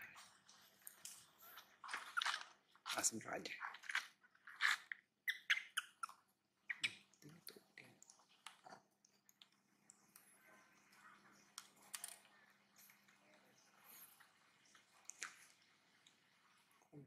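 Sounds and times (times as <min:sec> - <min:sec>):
monkeys chewing and smacking: 0:00.0 - 0:17.0.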